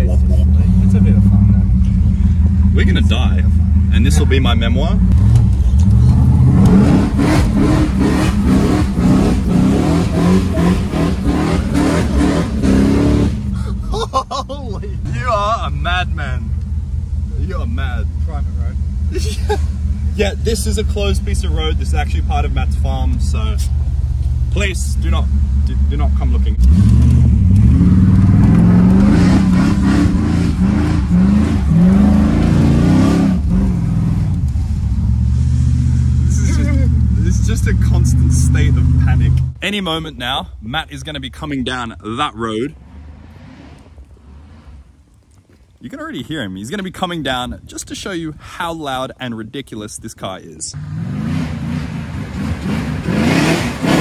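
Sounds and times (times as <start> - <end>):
car engine revving: 0.0 - 14.1, 14.8 - 46.0, 50.7 - 54.0.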